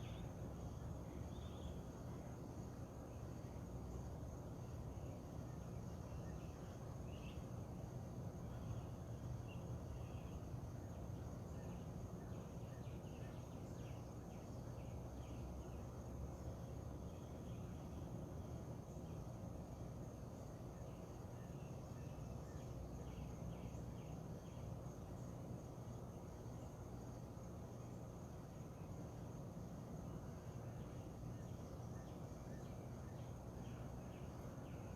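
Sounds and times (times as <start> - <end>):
high insect drone: 0.0 - 34.9.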